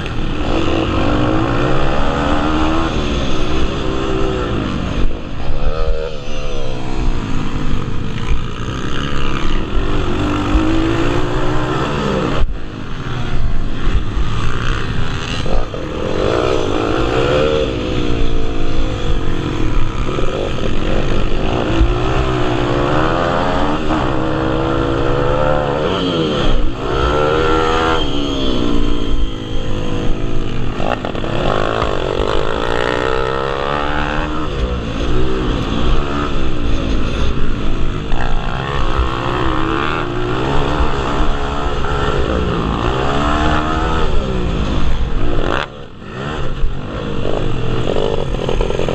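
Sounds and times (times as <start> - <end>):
pit bike engines revving: 0.0 - 48.9.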